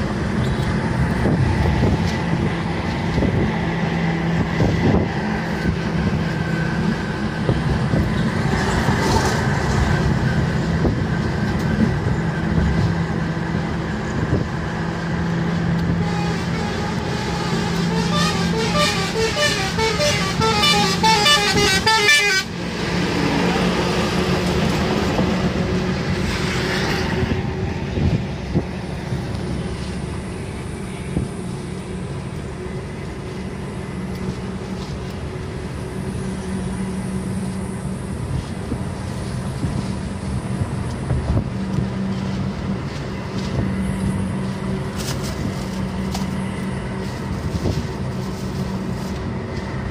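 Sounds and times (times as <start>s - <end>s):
car cabin engine and road noise: 0.0s - 49.9s
rushing noise: 0.0s - 49.9s.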